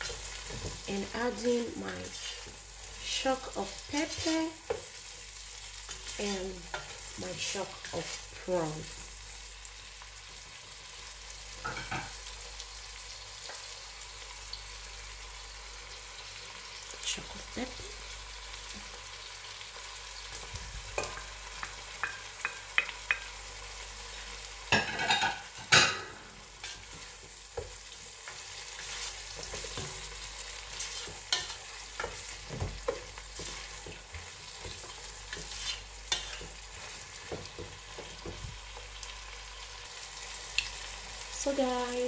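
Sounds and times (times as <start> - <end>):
vegetables sizzling in a pot: 0.0 - 42.0.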